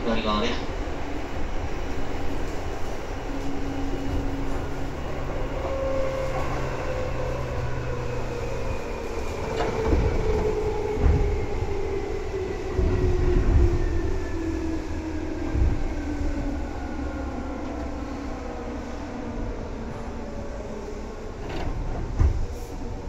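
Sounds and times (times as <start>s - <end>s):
wheel and track rumble: 0.6s - 14.4s, 15.4s - 23.0s.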